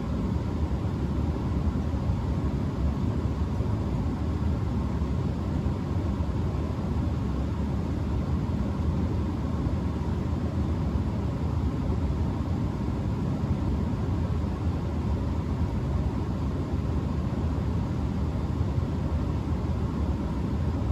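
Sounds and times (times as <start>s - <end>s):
blower hum: 0.0s - 20.9s.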